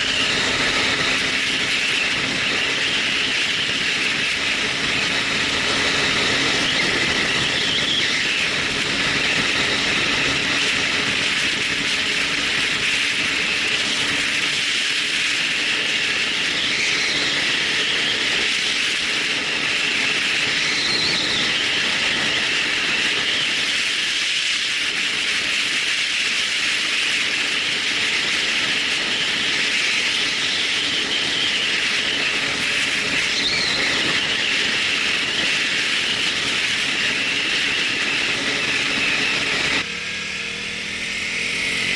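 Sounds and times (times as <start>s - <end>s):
faint wavering whine: 0.0s - 41.9s
loud rushing noise: 0.0s - 41.9s.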